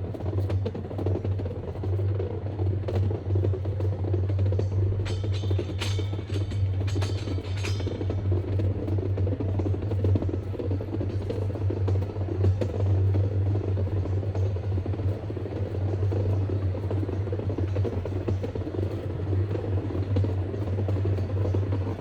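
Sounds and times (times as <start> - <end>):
electric train drive hum: 0.0 - 22.0.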